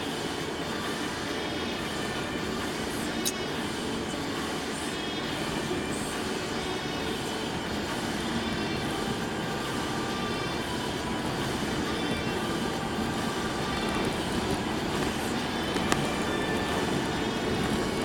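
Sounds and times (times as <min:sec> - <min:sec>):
tyres and engine rumble: 0:00.0 - 0:18.0.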